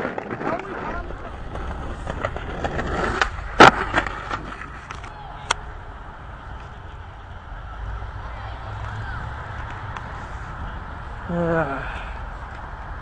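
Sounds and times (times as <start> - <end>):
skateboard clack: 0.0 - 10.8
skateboard rolling: 0.0 - 13.0.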